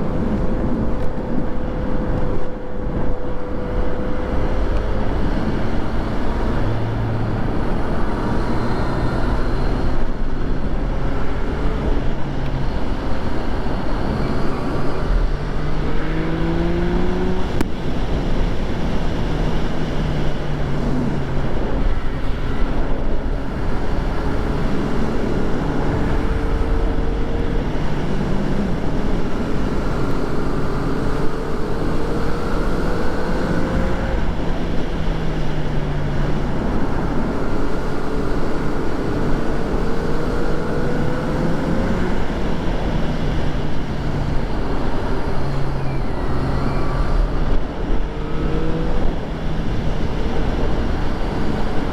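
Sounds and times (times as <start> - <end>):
motorcycle engine revving: 0.0 - 51.9
wind rumble on microphone: 0.0 - 51.9.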